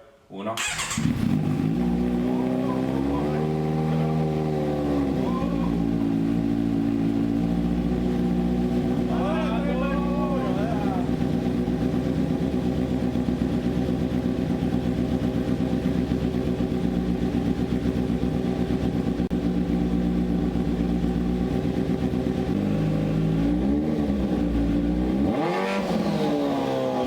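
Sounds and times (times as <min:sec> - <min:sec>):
motorcycle engine idling: 0:00.6 - 0:25.3
motorcycle engine revving: 0:00.6 - 0:27.0.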